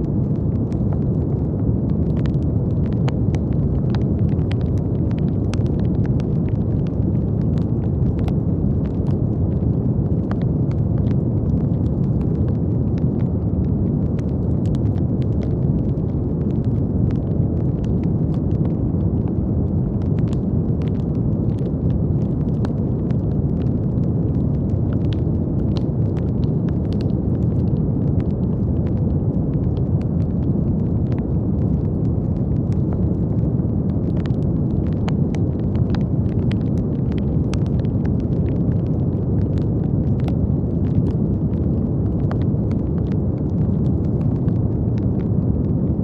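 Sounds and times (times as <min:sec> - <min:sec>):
brown noise rushing: 0:00.0 - 0:46.0
faint clicks and crackles: 0:00.0 - 0:46.0.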